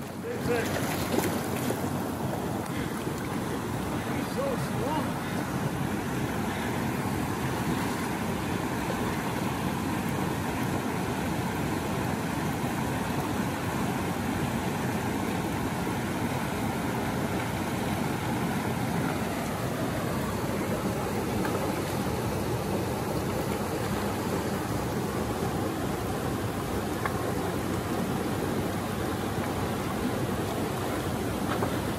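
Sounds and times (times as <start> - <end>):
river water rushing over falls: 0.0 - 31.9.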